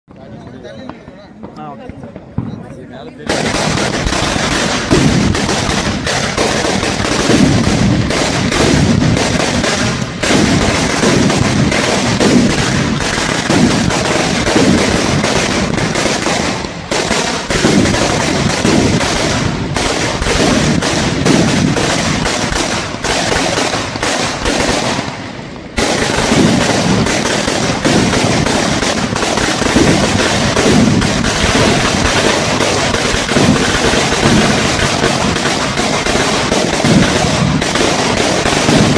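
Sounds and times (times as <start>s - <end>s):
firecracker string rapid bangs: 3.2s - 38.9s.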